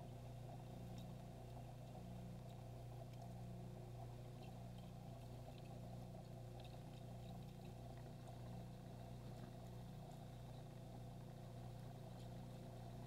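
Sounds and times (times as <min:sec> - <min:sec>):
aquarium pump humming: 0:00.0 - 0:13.0
faint ticks: 0:00.0 - 0:13.0.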